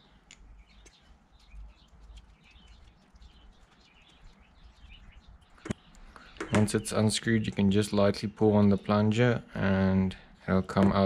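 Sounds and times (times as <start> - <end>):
faint bird chirps: 0.0 - 10.7.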